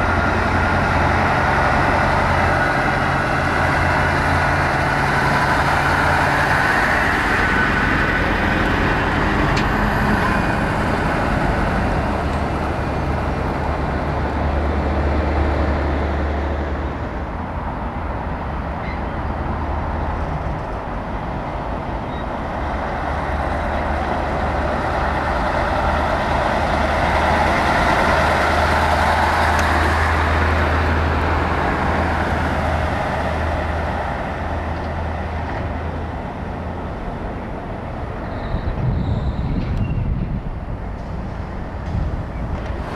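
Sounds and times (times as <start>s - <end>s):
diesel trucks driving past: 0.0s - 42.9s.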